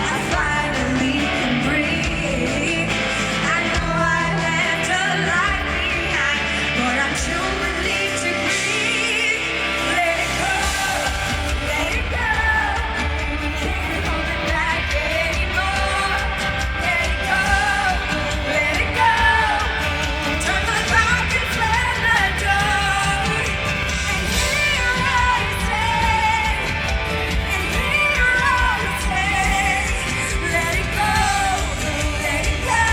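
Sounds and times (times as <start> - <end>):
instrumental backing music: 0.0 - 32.9
person singing pop song: 0.0 - 32.9.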